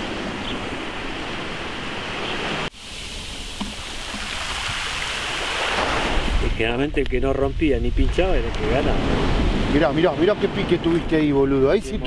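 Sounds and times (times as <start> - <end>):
sea surf: 0.0 - 6.9, 7.5 - 12.0
wind: 0.0 - 12.0.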